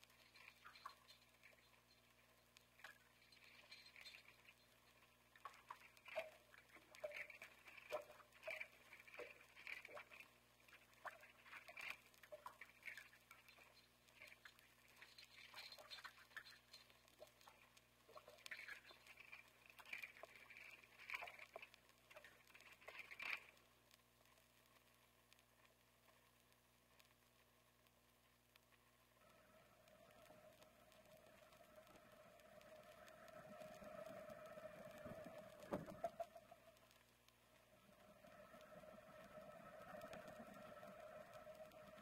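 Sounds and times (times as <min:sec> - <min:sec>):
small scratches: 0:00.0 - 0:29.1, 0:29.8 - 0:42.0.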